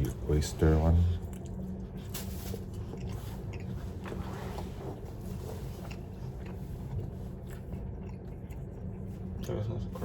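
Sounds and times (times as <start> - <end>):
steady low hum: 0.0 - 10.0
person chewing: 1.2 - 9.5.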